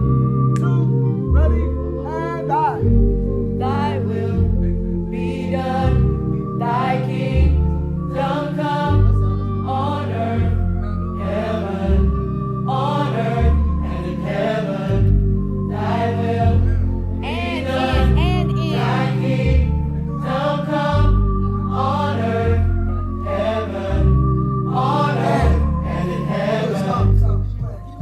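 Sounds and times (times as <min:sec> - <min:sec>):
choir singing: 0:01.6 - 0:27.2.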